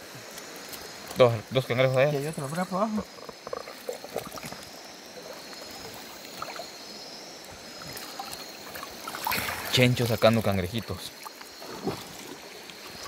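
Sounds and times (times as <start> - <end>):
steady rush of water: 0.0 - 13.0
river water splashing: 1.8 - 13.0.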